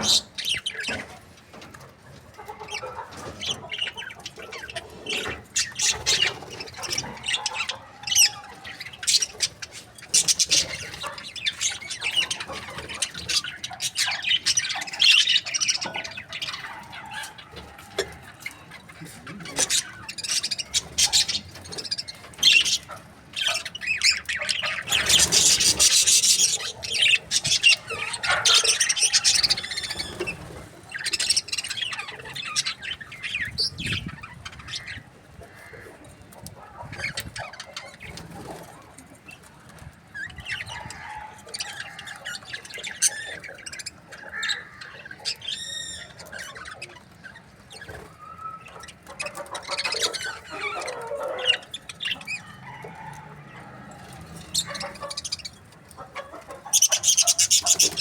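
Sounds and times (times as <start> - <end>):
budgies chirping and chattering: 0.0 - 58.0.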